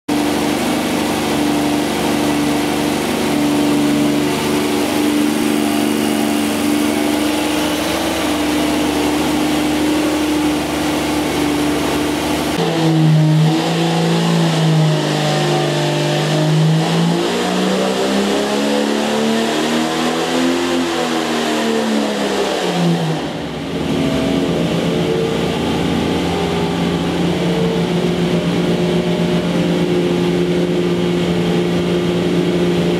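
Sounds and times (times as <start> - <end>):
engine running on dynamometer: 0.1 - 32.9.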